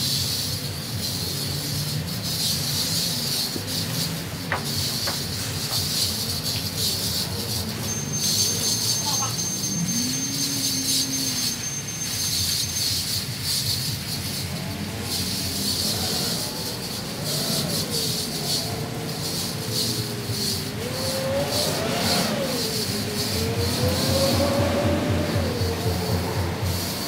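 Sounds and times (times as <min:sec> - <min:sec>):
high-pressure spray hissing: 0:00.0 - 0:27.0.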